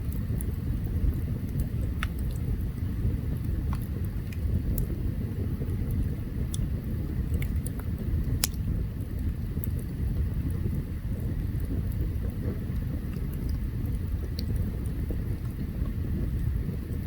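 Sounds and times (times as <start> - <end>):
campfire rumble: 0.0 - 17.0
fire crackling and popping: 0.0 - 17.0.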